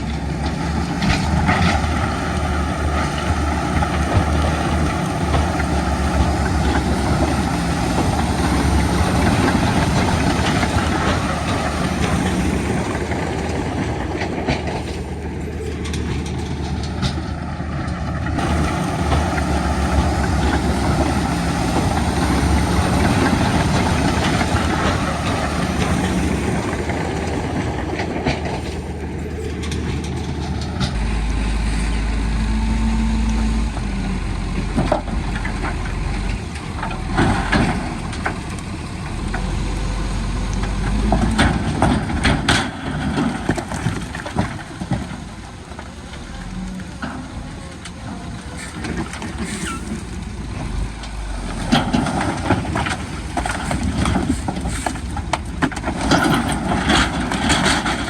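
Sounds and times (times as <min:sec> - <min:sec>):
diesel engine working: 0:00.0 - 0:58.0.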